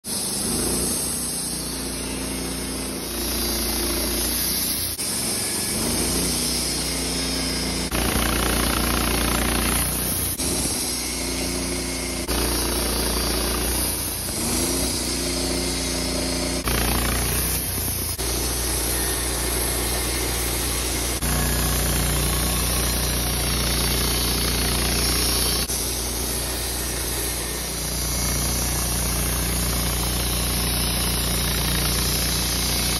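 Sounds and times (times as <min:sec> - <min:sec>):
band blade sawing log: 0:00.0 - 0:32.9
sawmill engine running: 0:00.0 - 0:32.9.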